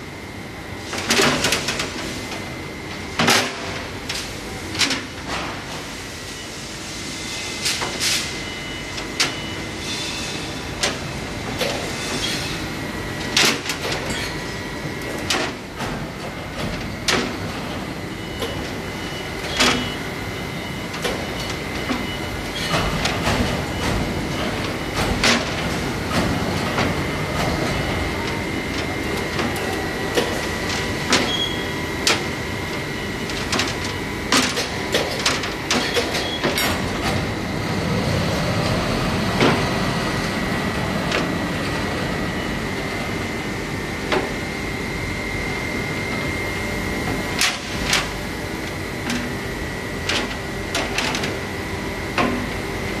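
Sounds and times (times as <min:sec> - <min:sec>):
machinery high whine: 0:05.3 - 0:53.0.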